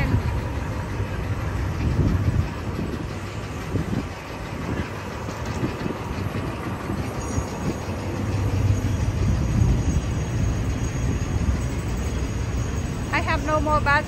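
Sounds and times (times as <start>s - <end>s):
low rumble of city noise: 0.0s - 14.0s.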